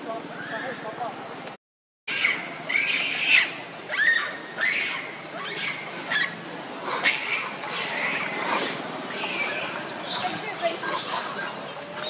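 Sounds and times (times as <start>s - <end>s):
macaque screeching: 0.4s - 0.8s, 2.1s - 12.0s.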